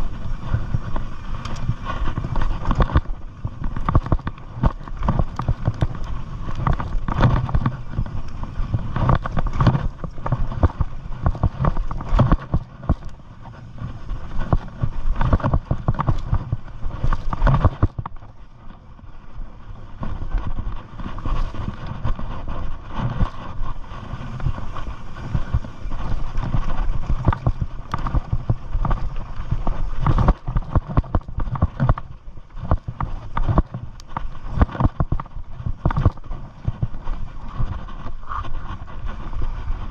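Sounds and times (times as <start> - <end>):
bike rattling and knocking: 0.0 - 39.9
bike tyres rolling over dirt: 0.0 - 39.9
steady rushing noise: 0.0 - 39.9.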